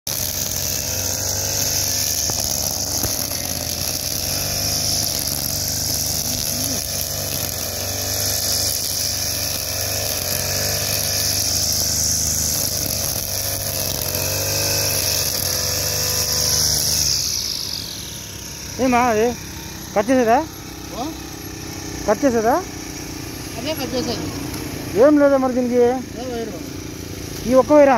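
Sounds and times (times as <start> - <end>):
brush cutter engine running: 0.1 - 27.9.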